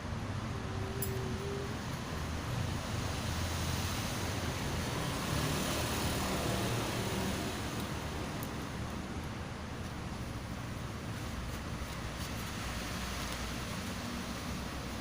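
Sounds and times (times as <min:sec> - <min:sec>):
vehicle rumble and hiss: 0:00.0 - 0:15.0.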